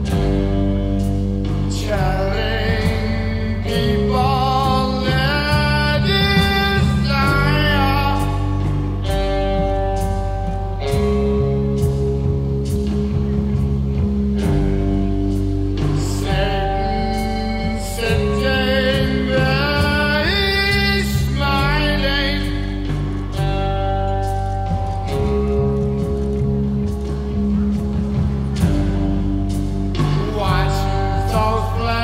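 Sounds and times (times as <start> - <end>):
song with sung vocals: 0.0 - 14.5, 15.6 - 32.0.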